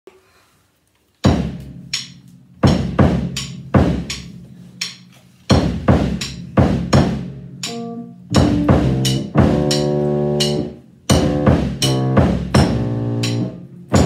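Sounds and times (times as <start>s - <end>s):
acoustic drum kit groove: 1.2s - 14.0s.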